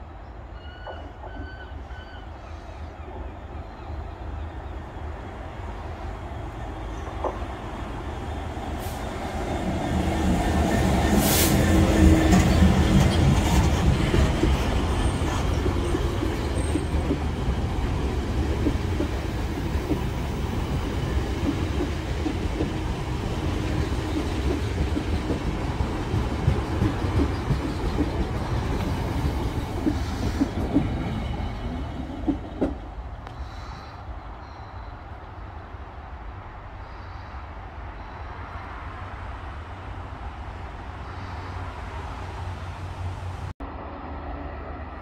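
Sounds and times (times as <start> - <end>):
train rumbling past: 0.0 - 45.0.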